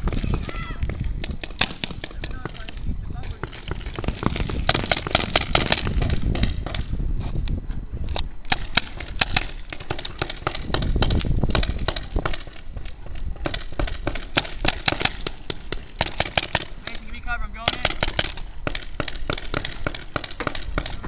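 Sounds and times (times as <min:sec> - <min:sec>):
paintball markers firing: 0:00.0 - 0:06.9, 0:08.1 - 0:21.0.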